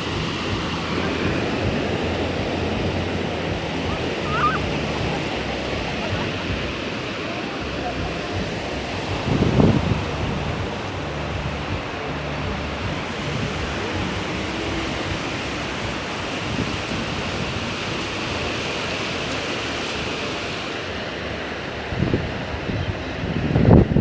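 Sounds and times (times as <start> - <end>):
waves breaking on a beach: 0.0 - 24.0.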